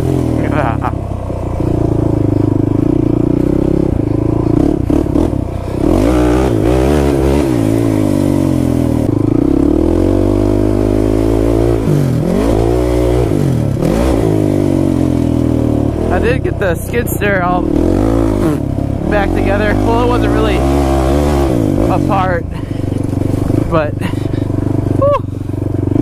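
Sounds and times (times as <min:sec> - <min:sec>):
quad engine running hard: 0:00.0 - 0:26.0.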